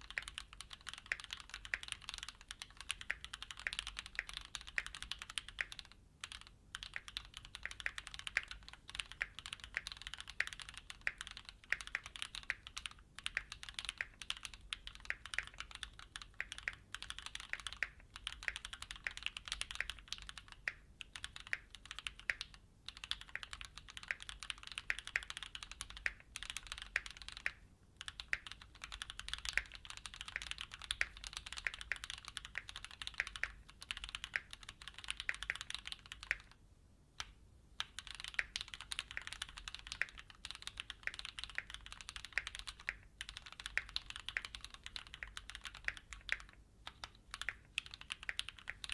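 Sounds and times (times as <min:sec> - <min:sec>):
fast mechanical keyboard typing: 0:00.0 - 0:36.6, 0:37.2 - 0:48.9.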